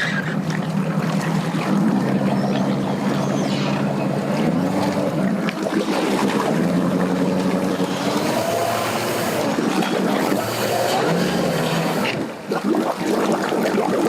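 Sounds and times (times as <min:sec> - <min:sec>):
boat motor humming: 0:00.0 - 0:12.6
water: 0:00.0 - 0:14.0.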